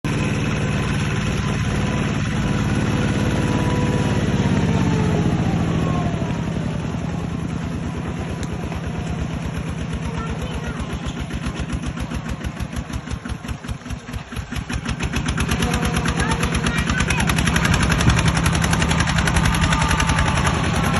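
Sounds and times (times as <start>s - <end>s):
engine running with pulsing beat: 0.1s - 20.9s.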